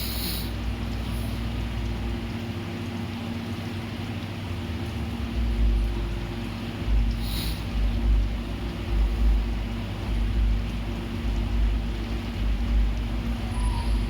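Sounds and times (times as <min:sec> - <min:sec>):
constant hiss: 0:00.0 - 0:14.0
mechanical hum: 0:00.0 - 0:14.0.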